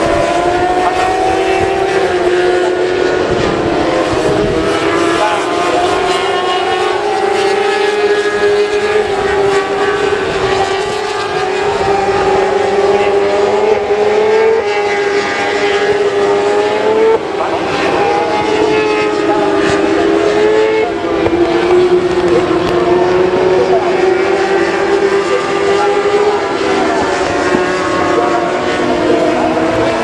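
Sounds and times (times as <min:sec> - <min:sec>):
motorcycles revving and shifting gears: 0:00.0 - 0:30.0.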